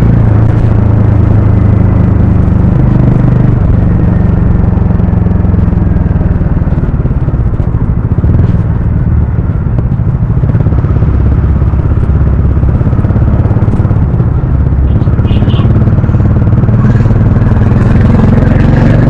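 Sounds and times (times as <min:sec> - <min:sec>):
motorcycle engine and exhaust: 0:00.0 - 0:19.0.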